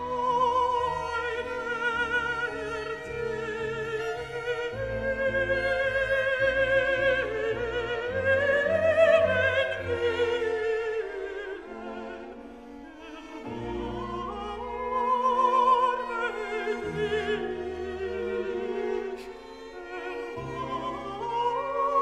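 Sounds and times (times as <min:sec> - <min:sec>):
operatic singing: 0:00.0 - 0:22.0.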